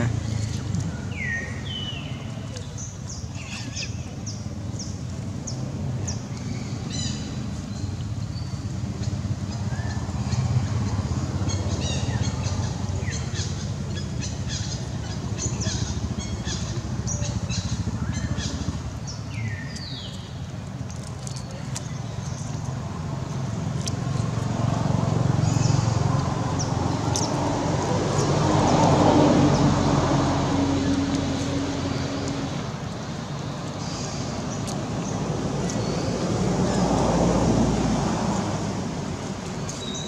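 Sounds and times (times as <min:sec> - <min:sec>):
small birds chirping: 0:00.0 - 0:29.8, 0:30.8 - 0:37.2, 0:39.4 - 0:40.0.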